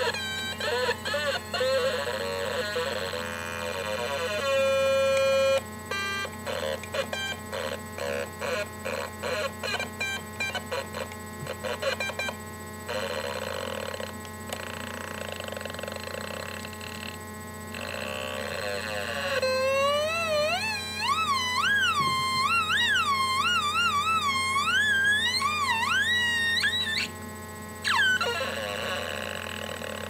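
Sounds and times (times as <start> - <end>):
synth electronic tone: 0.0 - 27.2, 27.8 - 30.0
warbling electronic tone: 0.0 - 27.2, 27.8 - 30.0.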